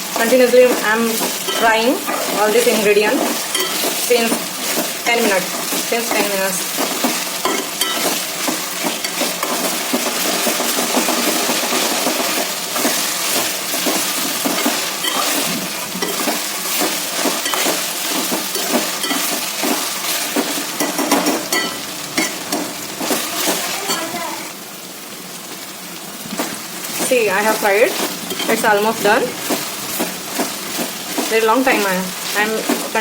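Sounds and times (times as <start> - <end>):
utensil scraping a pan: 0.0 - 24.0, 26.4 - 33.0
vegetables sizzling in oil: 0.0 - 33.0.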